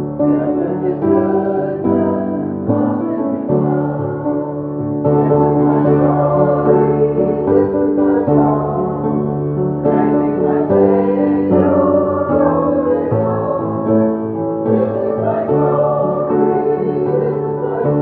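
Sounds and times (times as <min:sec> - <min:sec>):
congregation singing a hymn: 0:00.0 - 0:18.0
keyboard chords: 0:00.0 - 0:18.0.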